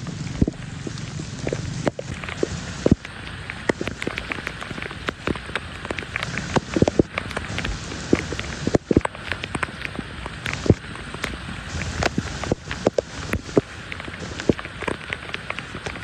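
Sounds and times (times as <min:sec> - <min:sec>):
heavy rain falling: 0:00.0 - 0:16.0
raindrops striking a surface: 0:00.0 - 0:16.0.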